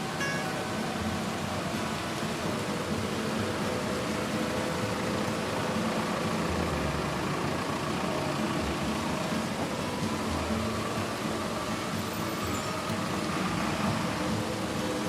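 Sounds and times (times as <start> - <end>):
road traffic: 0.0 - 15.0
steady rain hiss: 0.0 - 15.0
vehicle engine rumble: 0.0 - 15.0.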